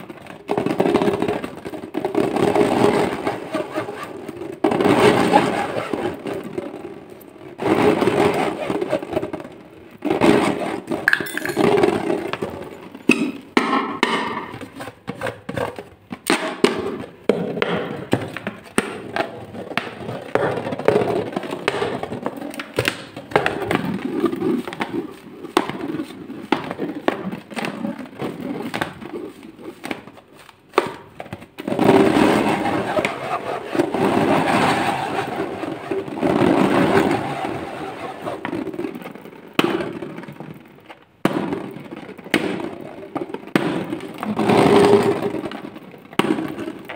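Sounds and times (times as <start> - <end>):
balloon clicks and crackles: 0.0 - 33.2, 38.2 - 46.9
hands rubbing a rubber balloon: 0.0 - 39.4.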